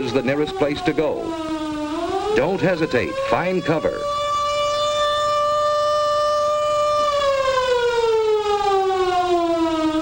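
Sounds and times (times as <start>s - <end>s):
warning siren: 0.0s - 10.0s.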